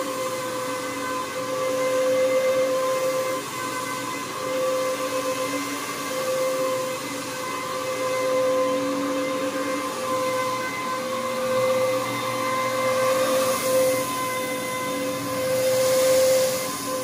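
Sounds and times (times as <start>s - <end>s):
carpet cleaning machine whine: 0.0s - 17.0s.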